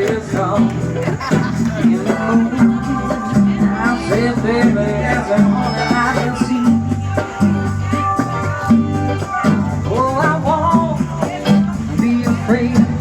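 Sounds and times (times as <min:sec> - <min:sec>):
live band music: 0:00.0 - 0:13.0
steady bass line: 0:00.0 - 0:13.0.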